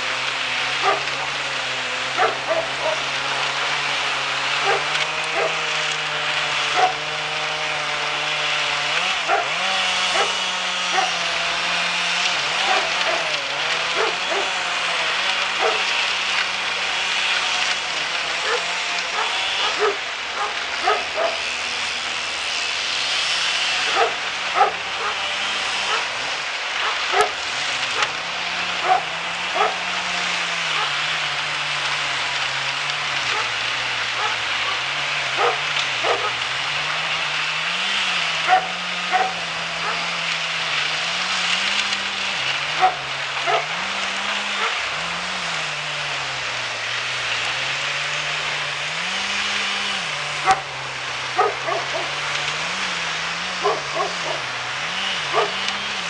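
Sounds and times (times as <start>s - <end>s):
machine engine running: 0.0s - 56.0s.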